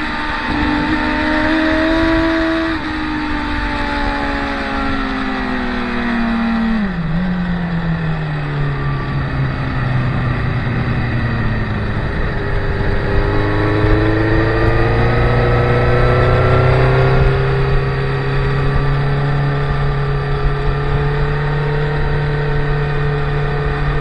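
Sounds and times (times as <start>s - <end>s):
motorcycle engines on race track: 0.0s - 24.0s.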